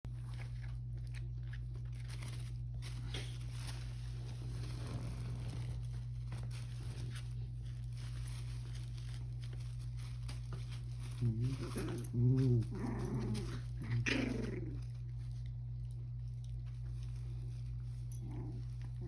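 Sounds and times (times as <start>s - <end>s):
rustling and crinkling: 0.1s - 19.0s
steady low hum: 0.1s - 19.0s.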